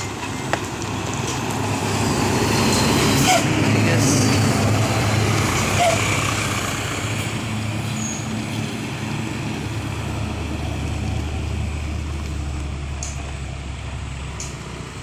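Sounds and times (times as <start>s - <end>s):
diesel truck engine drone: 0.0s - 15.0s
tyre and road noise: 0.0s - 15.0s.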